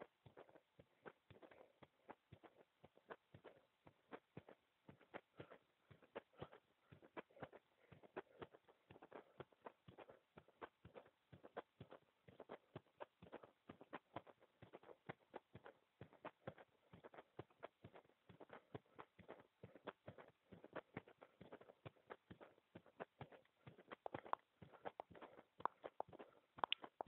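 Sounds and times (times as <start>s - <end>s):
heartbeat clicks: 0.0s - 27.0s.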